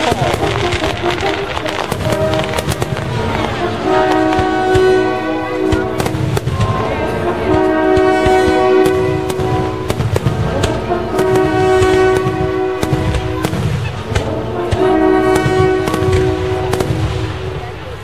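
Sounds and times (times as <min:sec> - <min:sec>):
firecrackers banging: 0:00.0 - 0:18.0
long horn-like notes: 0:00.0 - 0:18.0.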